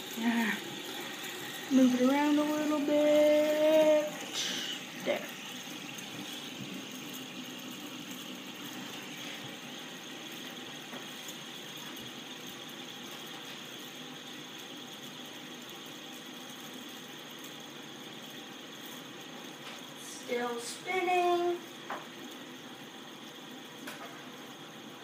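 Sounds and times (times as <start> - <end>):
fidget spinner whirring: 0.0 - 25.0.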